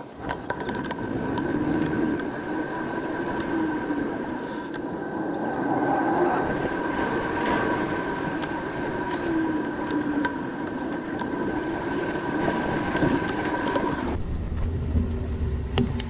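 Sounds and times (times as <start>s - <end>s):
vehicle running with high whine: 0.0s - 16.0s.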